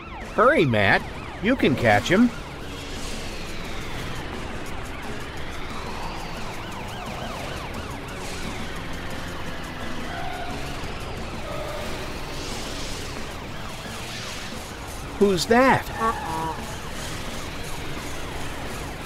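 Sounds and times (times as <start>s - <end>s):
police siren wailing: 0.0s - 19.0s.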